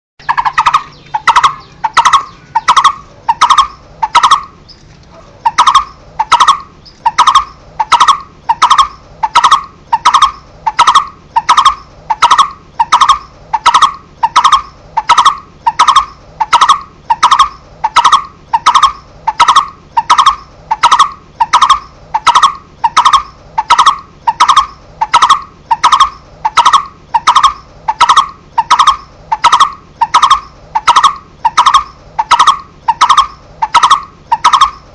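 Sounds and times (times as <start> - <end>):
bird calling hollow tuk: 0.2 - 34.9.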